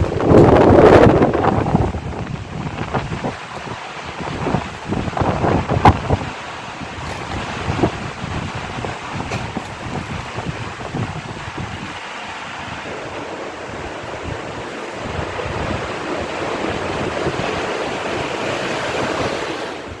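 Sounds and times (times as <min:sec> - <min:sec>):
waves surging: 0:00.0 - 0:20.0
wind buffeting microphone: 0:00.0 - 0:20.0.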